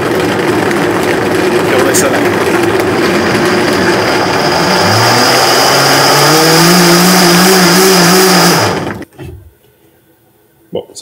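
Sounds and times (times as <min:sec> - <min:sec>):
blender grinding whir: 0:00.0 - 0:09.0.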